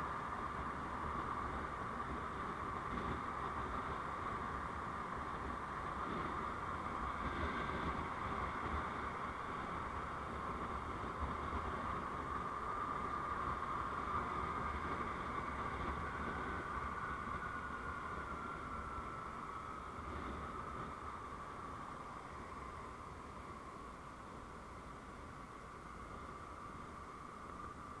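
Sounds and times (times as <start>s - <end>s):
constant whine: 0.0s - 28.0s
vehicle engine and road noise: 0.0s - 28.0s.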